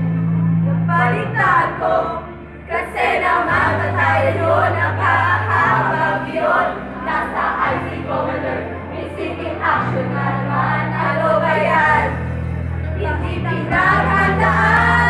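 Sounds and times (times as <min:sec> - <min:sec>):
backing track: 0:00.0 - 0:15.0
group singing a jingle: 0:01.3 - 0:12.3, 0:13.0 - 0:15.0.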